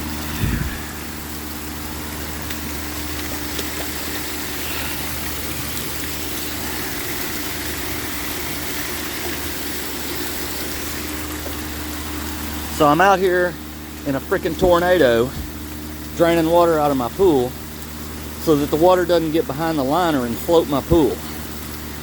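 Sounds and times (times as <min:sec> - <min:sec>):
pump motor humming: 0:00.0 - 0:22.0
rain hiss: 0:00.0 - 0:22.0
wind: 0:00.0 - 0:22.0.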